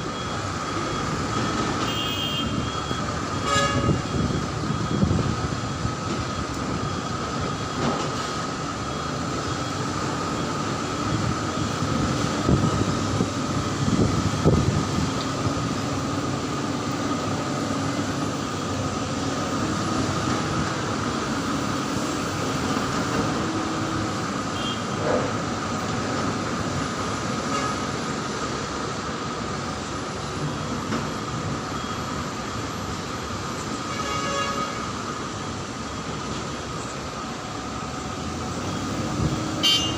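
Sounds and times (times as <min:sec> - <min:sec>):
dump truck engine rumbling: 0:00.0 - 0:39.9.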